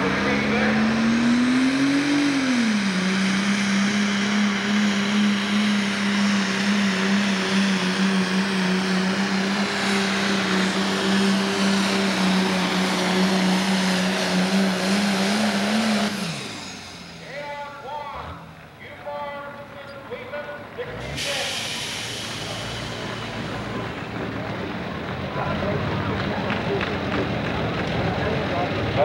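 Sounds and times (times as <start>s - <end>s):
diesel tractor engine under load: 0.0s - 29.0s.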